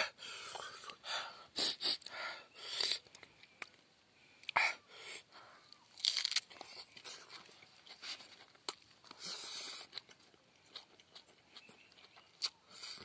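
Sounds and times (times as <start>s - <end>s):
man chewing and crunching food: 0.0s - 13.0s.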